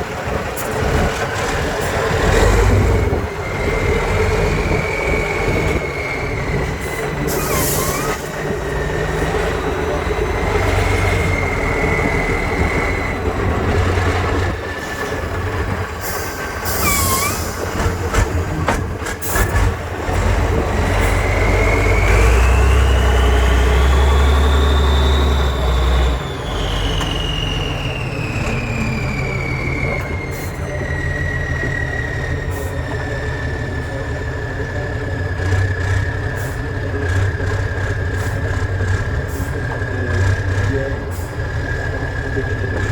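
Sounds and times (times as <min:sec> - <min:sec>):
truck engine working hard: 0:00.0 - 0:42.9.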